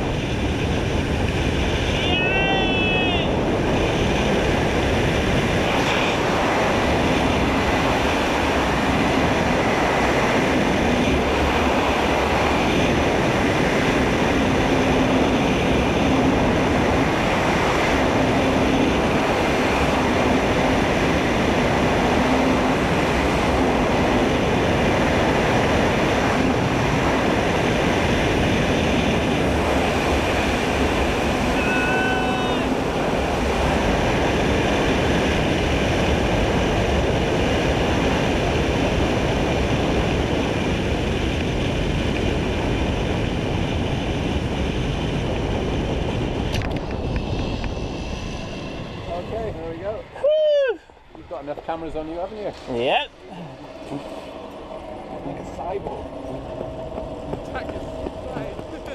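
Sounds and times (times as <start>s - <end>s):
wind rushing: 0.0s - 58.9s
zip-line trolley rolling on cable: 0.0s - 58.9s.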